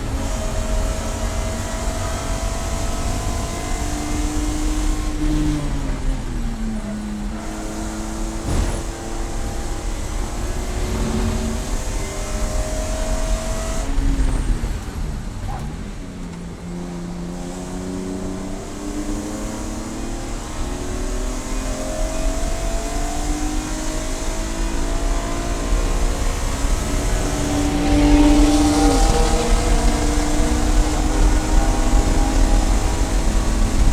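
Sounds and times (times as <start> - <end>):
race car engine accelerating: 0.0 - 33.9.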